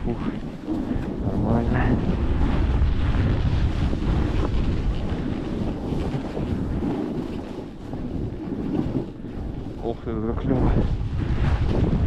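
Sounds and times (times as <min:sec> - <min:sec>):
blizzard wind buffeting microphone: 0:00.0 - 0:12.0.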